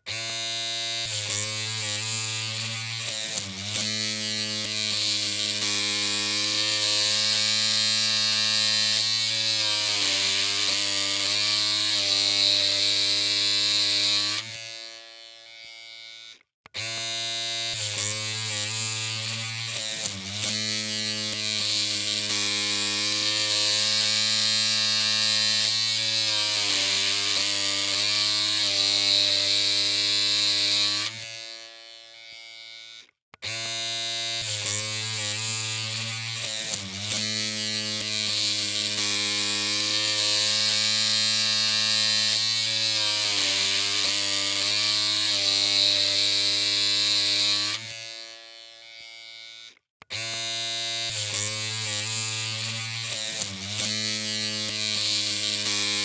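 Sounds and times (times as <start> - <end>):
electric hair clippers buzzing: 0.0 - 56.0.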